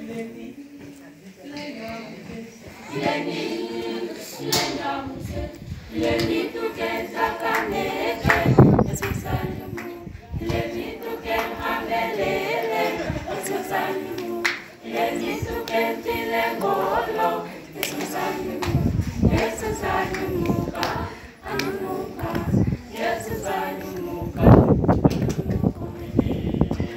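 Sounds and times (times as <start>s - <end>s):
choir singing a cappella: 0.0s - 26.9s.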